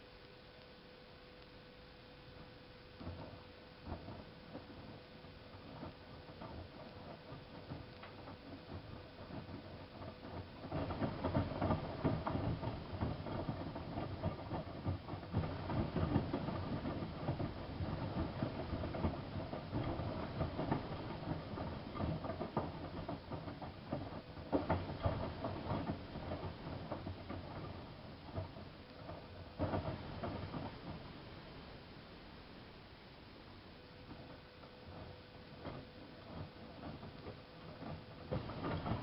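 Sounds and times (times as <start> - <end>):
washing machine drum tumbling laundry: 2.4 - 32.5, 33.6 - 39.0.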